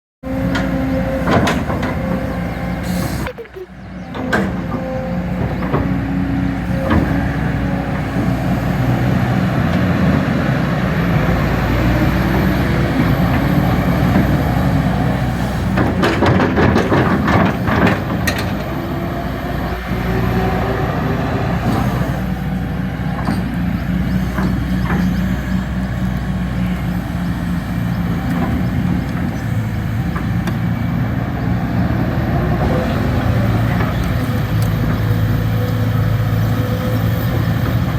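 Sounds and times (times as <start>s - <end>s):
excavator diesel engine running: 0.2s - 37.9s.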